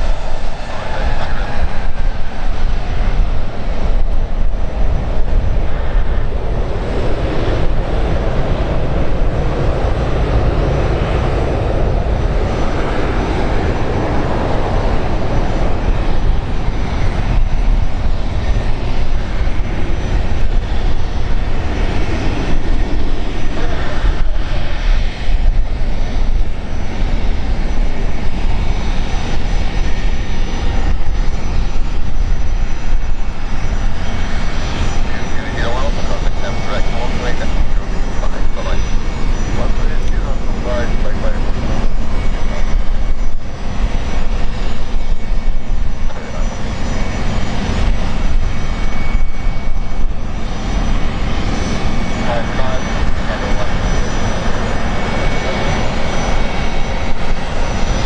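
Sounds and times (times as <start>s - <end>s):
airliner engines roaring: 0.0s - 58.0s.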